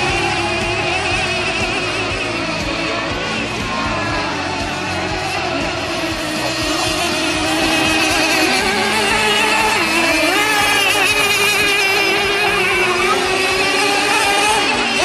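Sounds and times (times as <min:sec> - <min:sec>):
model boat engines revving: 0:00.0 - 0:15.0.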